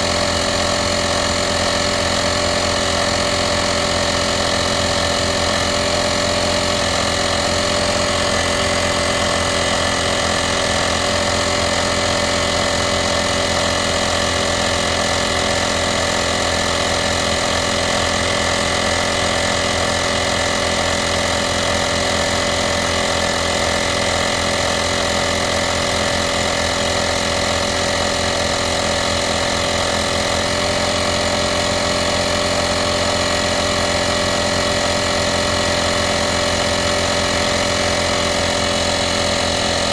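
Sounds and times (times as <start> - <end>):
tire inflator compressor buzzing: 0.0 - 39.9.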